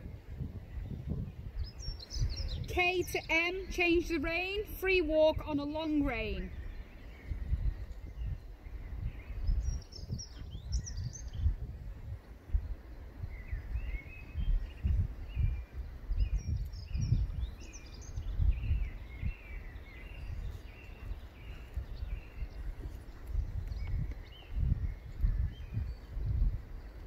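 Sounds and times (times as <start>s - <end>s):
birds singing: 0.6s - 27.0s.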